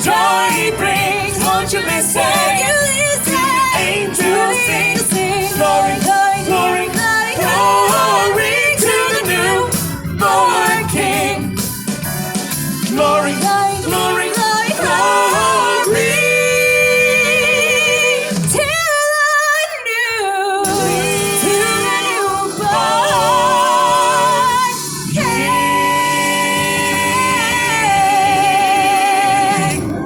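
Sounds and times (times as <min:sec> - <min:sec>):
gospel choir singing: 0:00.0 - 0:18.8, 0:20.6 - 0:30.0
backing music: 0:00.0 - 0:19.1, 0:20.6 - 0:30.0.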